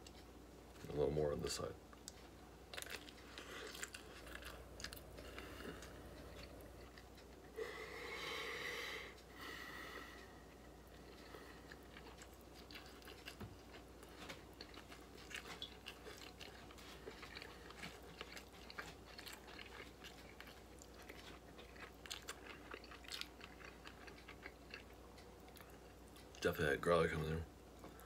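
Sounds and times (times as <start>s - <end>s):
faint chewing: 1.9s - 26.6s.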